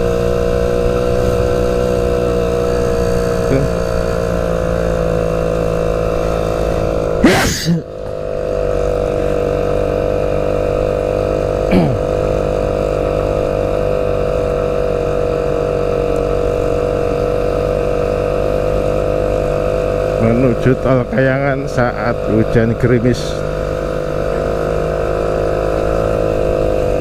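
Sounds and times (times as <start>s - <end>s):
engine swells with falling pitch: 0.0s - 27.0s
motorcycle engine droning: 0.0s - 27.0s
wind: 0.0s - 27.0s.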